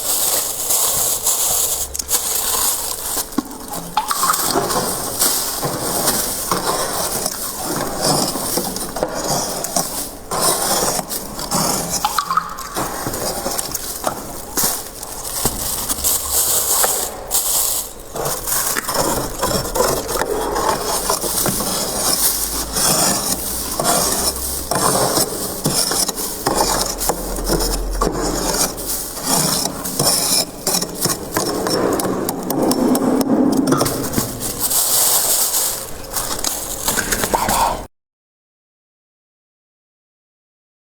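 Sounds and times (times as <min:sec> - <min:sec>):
freezer frost crunching: 0:00.0 - 0:37.9.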